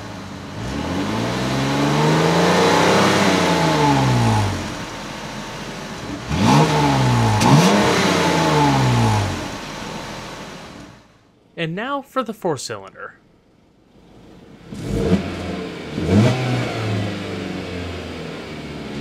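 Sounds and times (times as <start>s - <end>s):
car engine revving: 0.0s - 11.1s, 13.9s - 19.0s.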